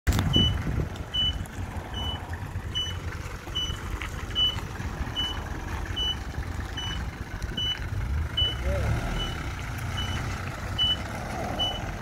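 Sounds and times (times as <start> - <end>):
truck engine running: 0.1 - 12.0
reversing alarm beeping: 0.3 - 12.0.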